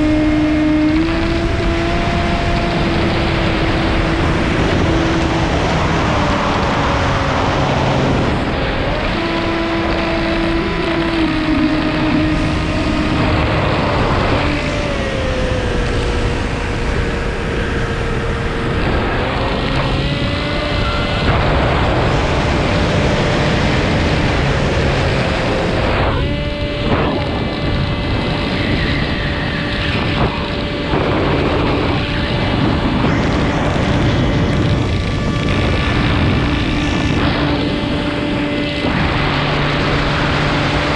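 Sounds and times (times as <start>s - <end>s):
model aeroplane engine and propeller: 0.0s - 40.9s
wind rush over microphone: 0.0s - 40.9s.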